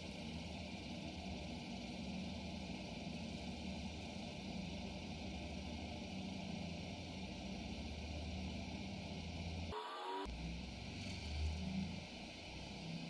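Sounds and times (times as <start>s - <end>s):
stepper motors low hum: 0.0s - 13.0s.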